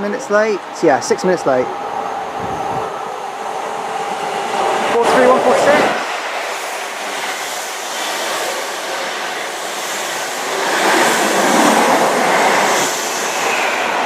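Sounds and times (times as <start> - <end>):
train passing at speed: 0.0 - 14.0.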